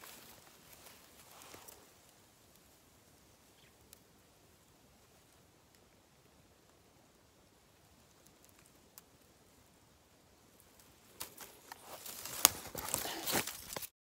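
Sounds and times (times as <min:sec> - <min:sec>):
rustling of dry grass and clothing: 0:00.0 - 0:13.9.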